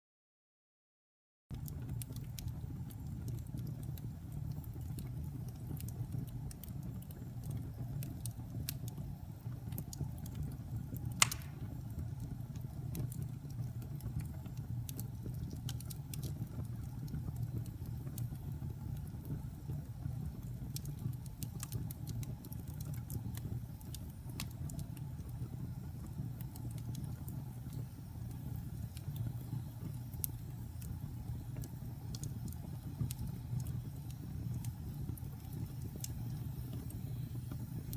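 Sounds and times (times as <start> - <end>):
fire crackling: 1.5 - 37.9
fire popping: 1.5 - 37.9
fire rumbling in a fireplace: 1.5 - 37.9.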